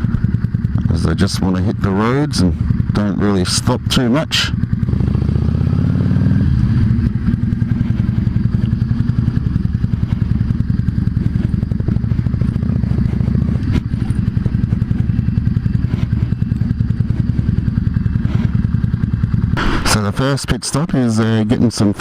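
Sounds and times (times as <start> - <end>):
motorcycle engine running at low revs: 0.0 - 22.0.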